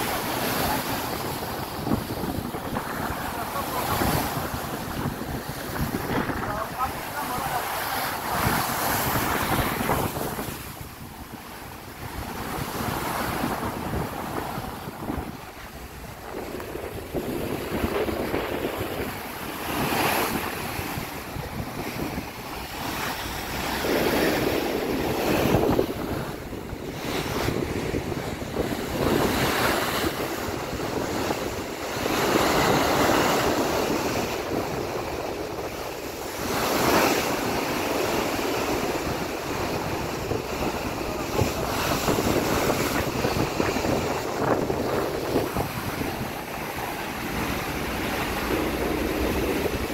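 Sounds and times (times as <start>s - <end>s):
sea waves rushing against ship: 0.0s - 49.9s
wind buffeting microphone: 0.0s - 49.9s.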